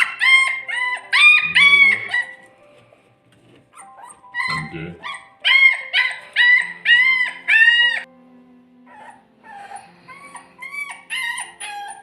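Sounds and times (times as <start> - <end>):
puppy crying: 0.0 - 2.6, 3.7 - 8.1, 8.9 - 12.0
puppy whimpering: 0.0 - 8.1, 8.9 - 12.0.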